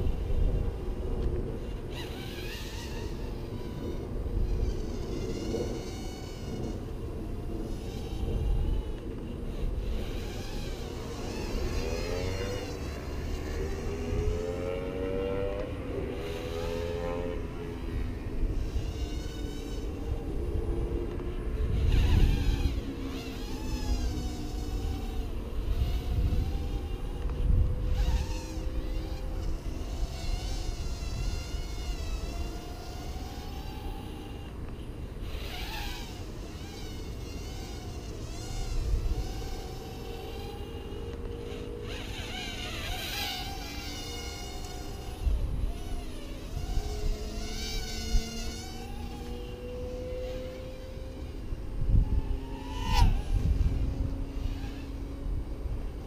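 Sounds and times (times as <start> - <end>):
quadcopter buzzing in flight: 0.0 - 56.0.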